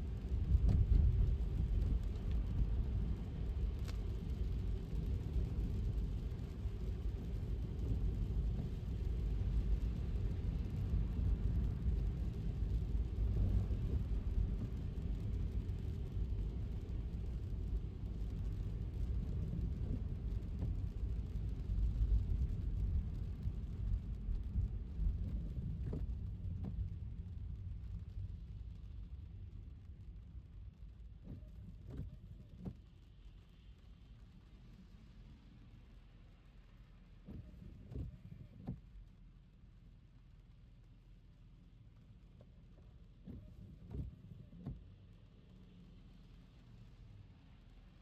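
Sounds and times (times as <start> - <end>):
car tyres on wet road: 0.0 - 48.0.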